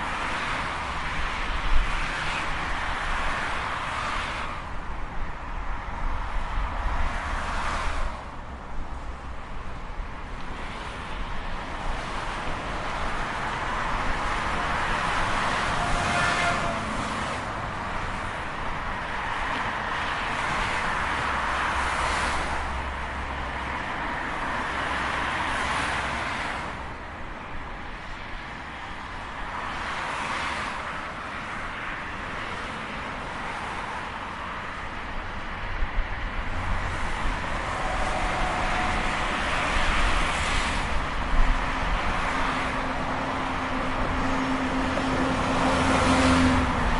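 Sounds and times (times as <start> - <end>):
vehicles passing at speed: 0.0 - 46.9.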